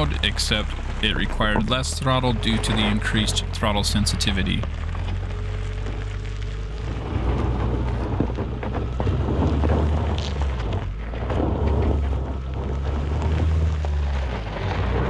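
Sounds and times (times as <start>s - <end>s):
car engine under throttle: 0.0s - 15.0s
tyres crunching over gravel: 0.0s - 15.0s.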